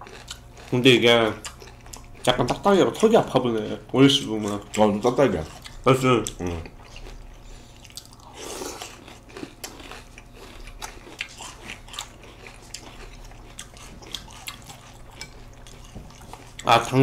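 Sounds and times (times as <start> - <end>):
people chewing crunchy cereal: 0.0 - 17.0.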